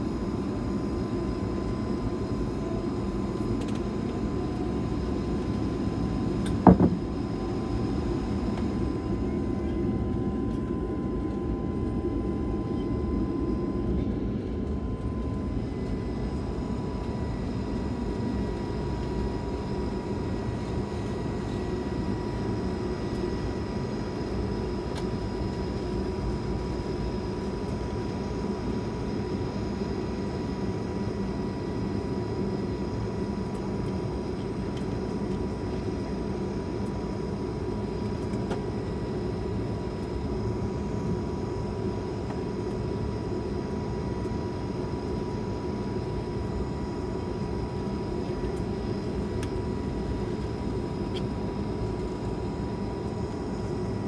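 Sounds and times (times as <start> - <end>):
thin steady whine: 0.0 - 54.0.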